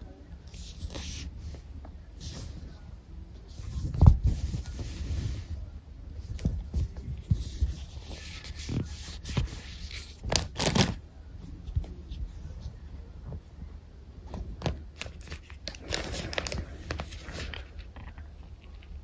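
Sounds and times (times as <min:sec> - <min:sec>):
soft rustling: 0:00.2 - 0:19.0.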